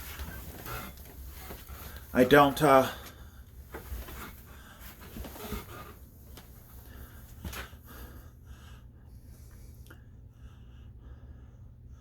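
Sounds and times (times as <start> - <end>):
low steady hum: 0.0 - 12.0
man breathing: 0.0 - 12.0.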